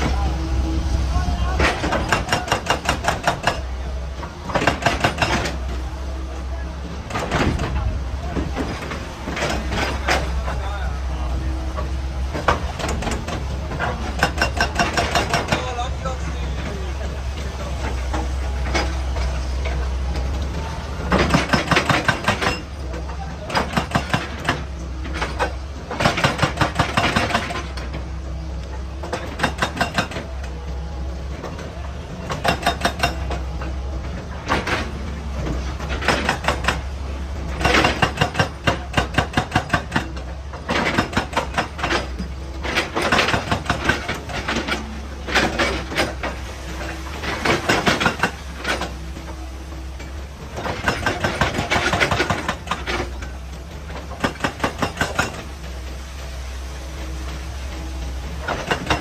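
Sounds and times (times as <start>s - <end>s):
diesel engine drone: 0.0s - 59.0s
hydraulic rock breaker hammering: 0.0s - 59.0s.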